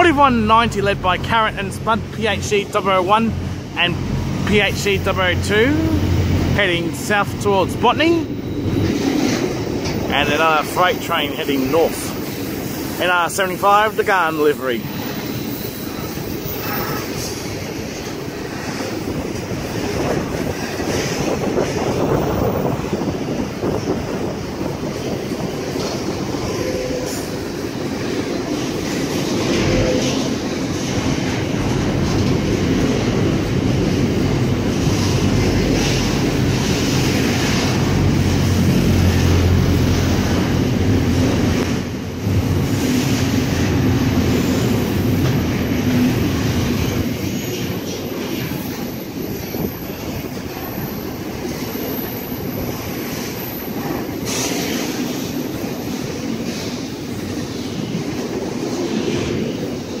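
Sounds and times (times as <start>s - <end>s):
freight train wheels rumbling: 0.0s - 60.0s.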